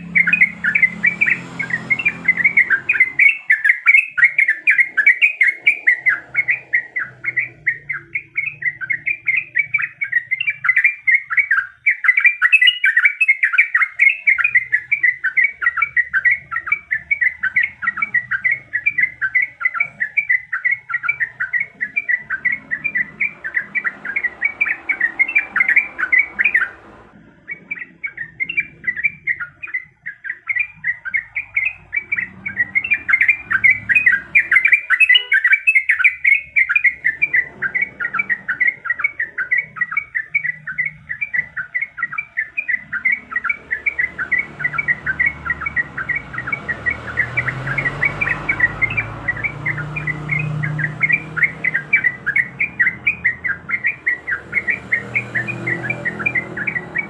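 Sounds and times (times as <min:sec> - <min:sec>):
bird singing chattering notes: 0:00.0 - 0:57.0.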